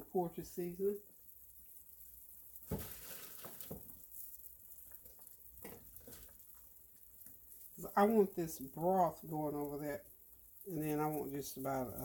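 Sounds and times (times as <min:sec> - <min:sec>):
sauce bubbling and hissing: 0:00.0 - 0:12.0.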